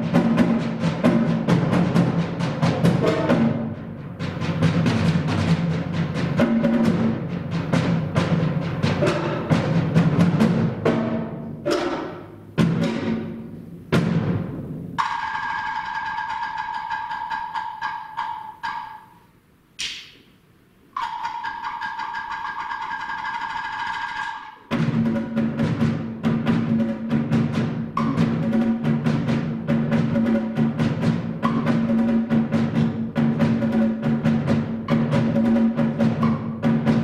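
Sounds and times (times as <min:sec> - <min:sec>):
drums struck rhythmically: 0:00.0 - 0:19.2, 0:19.8 - 0:37.0.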